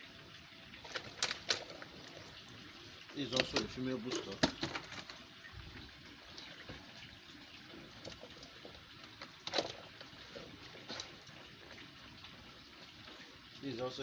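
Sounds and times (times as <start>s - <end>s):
water trickling and sloshing: 0.0s - 14.0s.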